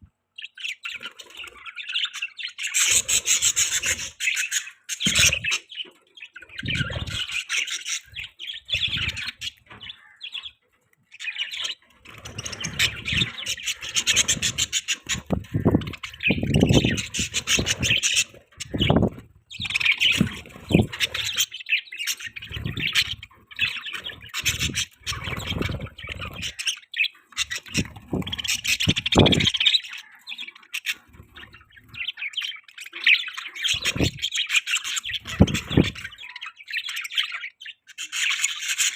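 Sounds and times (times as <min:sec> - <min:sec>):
budgerigars chirping: 0:00.4 - 0:38.9.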